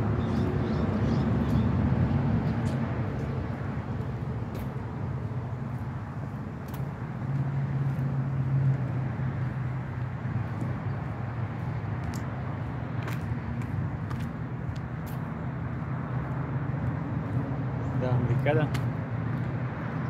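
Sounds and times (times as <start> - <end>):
traffic rumble: 0.0 - 20.0
vehicle passing: 0.0 - 20.0.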